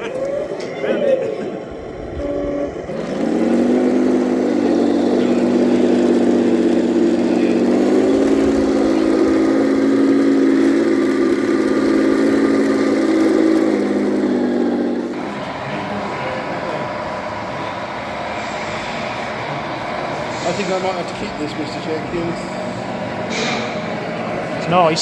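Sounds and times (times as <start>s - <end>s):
toy truck engine sound: 0.0s - 23.7s.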